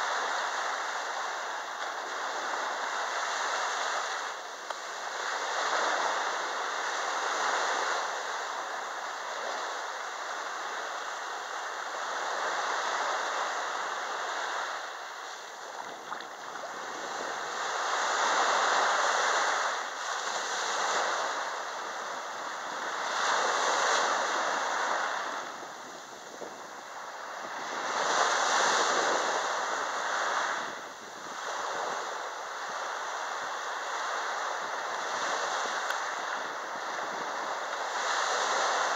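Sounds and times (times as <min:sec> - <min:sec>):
small waves washing on sand: 0:00.0 - 0:38.9.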